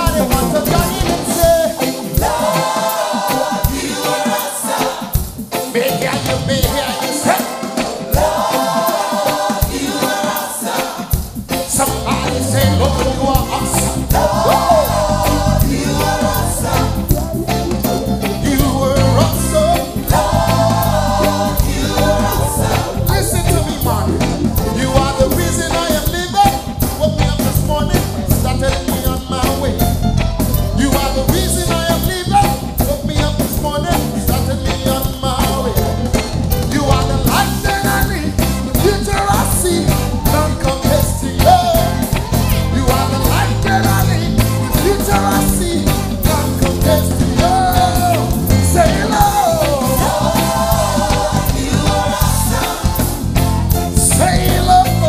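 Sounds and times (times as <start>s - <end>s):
lead and backing singers: 0.0s - 55.0s
reggae gospel band playing: 0.0s - 55.0s.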